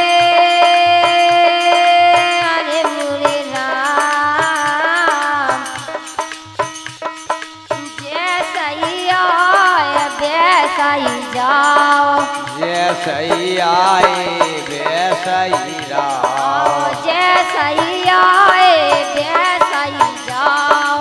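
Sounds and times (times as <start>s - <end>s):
drum and rattle beats: 0.0s - 21.0s.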